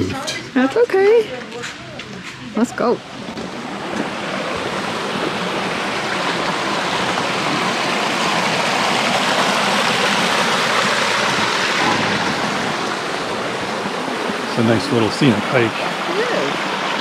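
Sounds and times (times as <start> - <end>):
creek rippling and splashing: 1.7 - 17.0.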